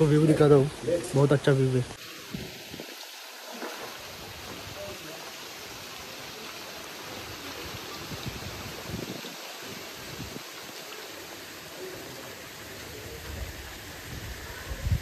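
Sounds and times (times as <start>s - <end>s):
outdoor ambience hiss: 0.0s - 15.0s.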